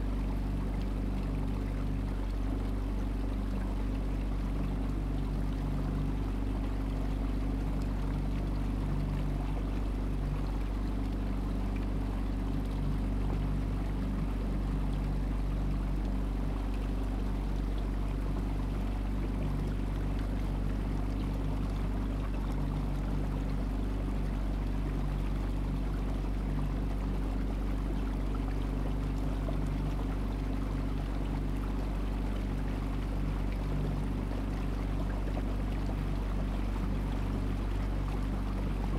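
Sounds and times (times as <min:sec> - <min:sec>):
boat engine running: 0:00.0 - 0:38.9
water rushing along hull: 0:00.0 - 0:38.9.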